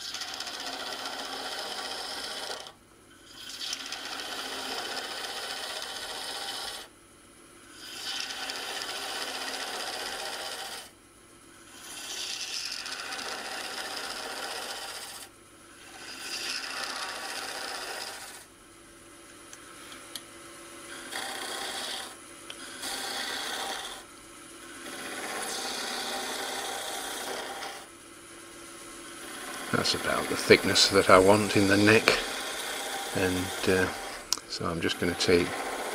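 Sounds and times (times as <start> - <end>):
gouge cutting wood on lathe: 0.0 - 2.7, 3.3 - 6.9, 7.8 - 10.9, 11.7 - 18.5, 20.9 - 27.9, 29.1 - 35.9
wood lathe running: 0.0 - 6.9, 7.8 - 10.9, 11.7 - 18.5, 20.9 - 27.9, 29.1 - 35.9.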